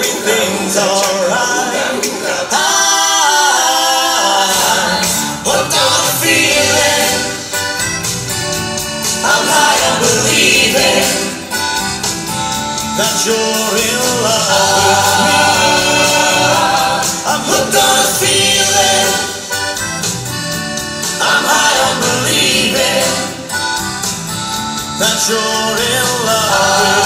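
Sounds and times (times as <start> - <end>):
group singing pop song: 0.0 - 27.0
instrumental accompaniment with beat: 0.0 - 27.0.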